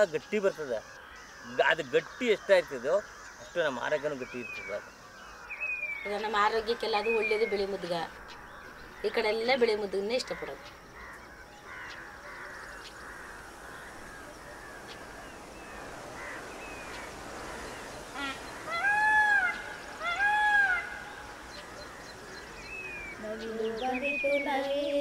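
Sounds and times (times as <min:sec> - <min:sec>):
peafowl calls: 0:00.0 - 0:25.0
small birds twittering: 0:00.0 - 0:25.0.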